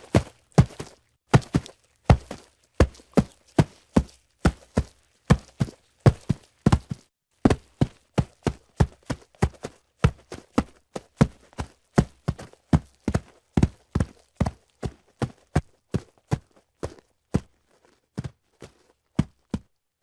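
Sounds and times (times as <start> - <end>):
hooves clip-clopping on hard surface: 0.0 - 19.7.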